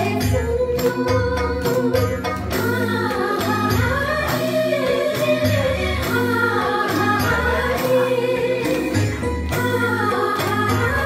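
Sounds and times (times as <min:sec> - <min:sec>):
amplified backing music: 0:00.0 - 0:11.0
women singing into microphones: 0:00.0 - 0:11.0.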